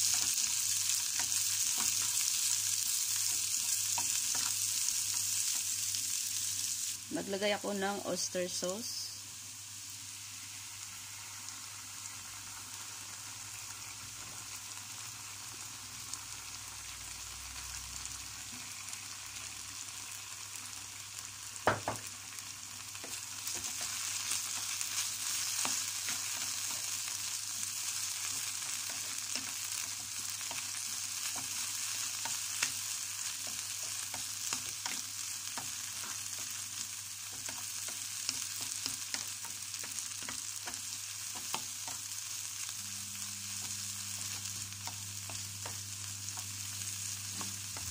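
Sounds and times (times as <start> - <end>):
vegetables sizzling in oil: 0.0 - 47.9.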